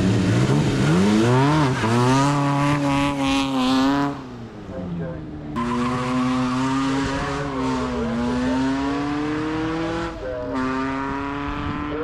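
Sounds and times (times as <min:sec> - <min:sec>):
racing car engine accelerating: 0:00.0 - 0:12.0.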